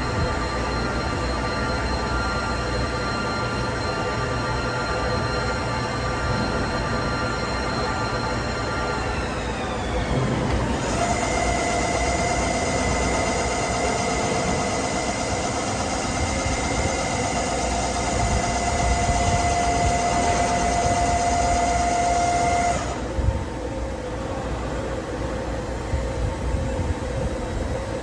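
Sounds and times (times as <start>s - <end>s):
low machine rumble: 0.0s - 28.0s
milling machine whine: 0.0s - 28.0s.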